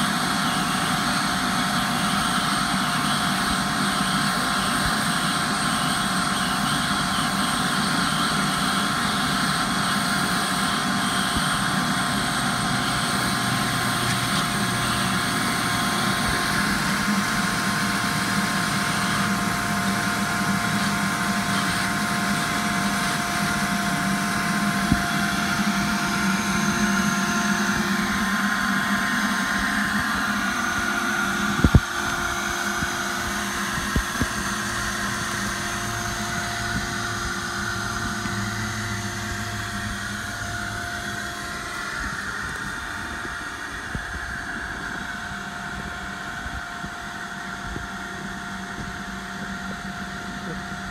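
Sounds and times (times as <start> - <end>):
cordless drill turning: 0.0 - 50.8
shop vac running: 0.0 - 50.9.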